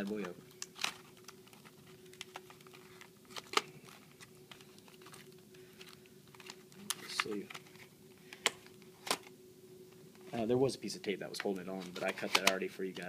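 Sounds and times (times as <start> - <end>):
plastic package clicks and crinkles: 0.0 - 9.3, 11.3 - 13.0
faint steady hum: 0.0 - 13.0.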